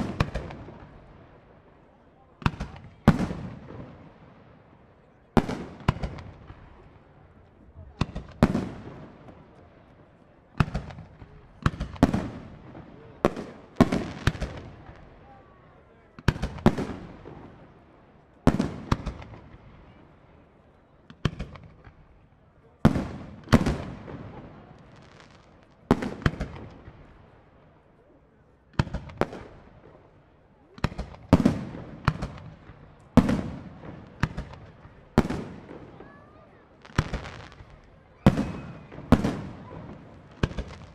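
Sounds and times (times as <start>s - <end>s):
fireworks bursting with echo: 0.0s - 40.9s.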